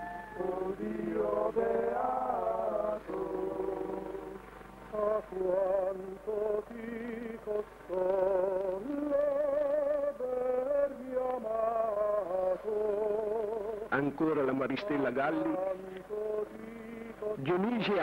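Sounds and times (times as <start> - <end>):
slow sung melody with vibrato: 0.0 - 17.7.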